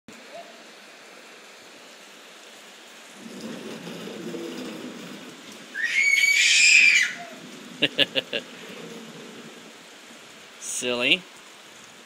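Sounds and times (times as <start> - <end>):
steady rain hiss: 0.1 - 12.0.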